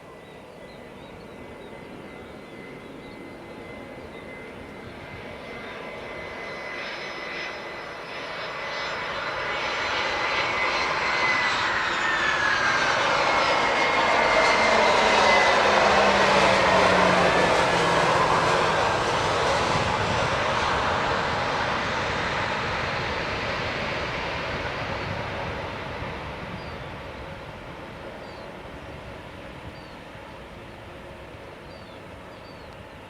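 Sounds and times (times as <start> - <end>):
airliner engines whining: 0.0 - 33.0.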